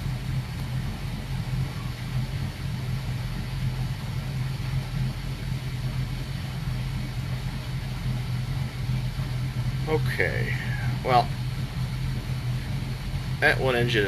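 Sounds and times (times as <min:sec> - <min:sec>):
boat engines idling: 0:00.0 - 0:14.0.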